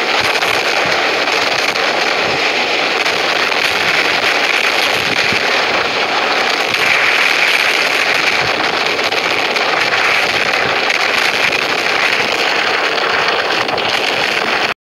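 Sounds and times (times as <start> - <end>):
helicopter flying low overhead: 0.0 - 14.8.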